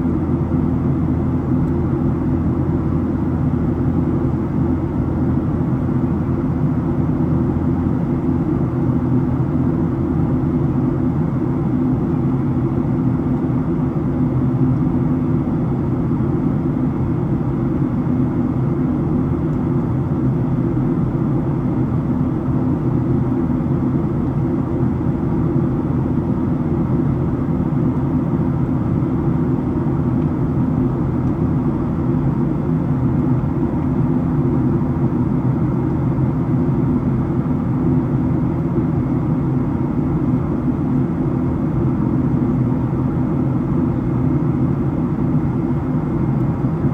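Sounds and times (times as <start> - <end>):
airplane cabin drone: 0.0 - 46.9.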